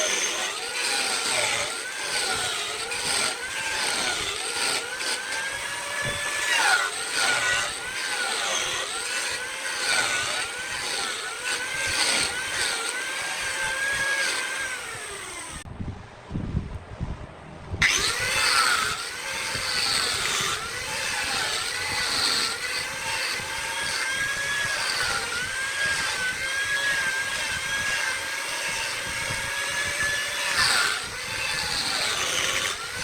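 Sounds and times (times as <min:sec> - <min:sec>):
motor whining: 0:00.0 - 0:15.7, 0:17.8 - 0:33.0.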